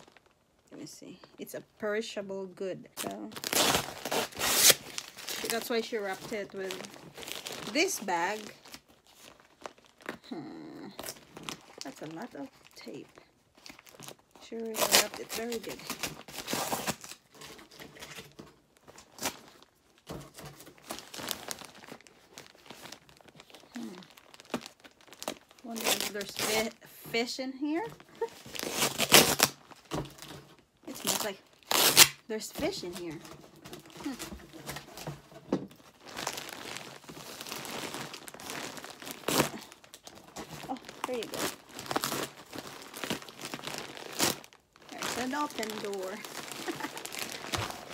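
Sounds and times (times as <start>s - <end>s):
plastic bag crinkling: 0.0s - 1.4s, 3.0s - 47.9s.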